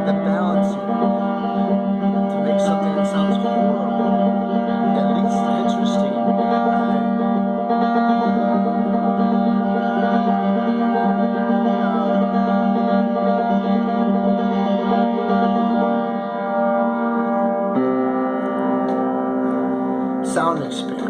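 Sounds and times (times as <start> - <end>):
drone of held instrument notes: 0.0 - 21.0.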